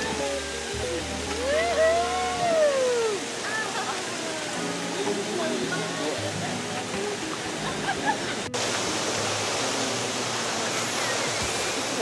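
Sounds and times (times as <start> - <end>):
rushing water hiss: 0.0 - 12.0.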